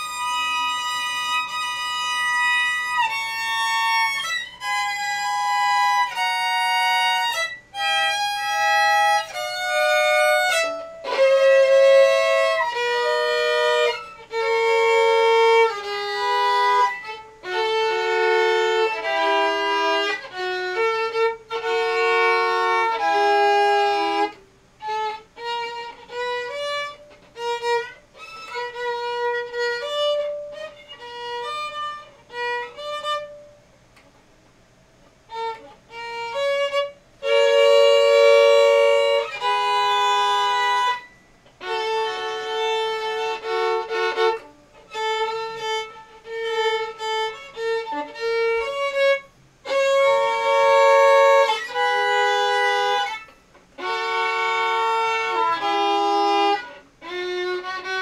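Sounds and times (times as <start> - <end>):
violin playing scales: 0.0 - 34.1, 35.0 - 58.0.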